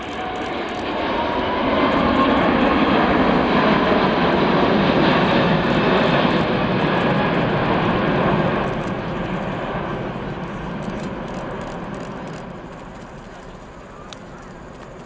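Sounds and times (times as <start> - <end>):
jet flying past: 0.0 - 15.0.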